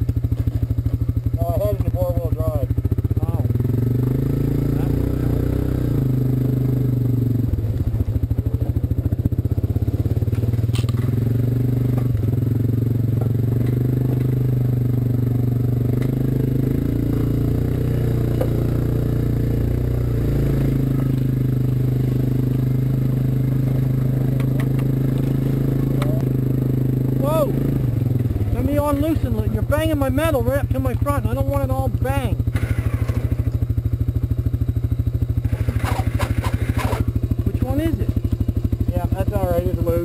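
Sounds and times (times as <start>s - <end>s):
quad bike engine running: 0.0s - 40.0s.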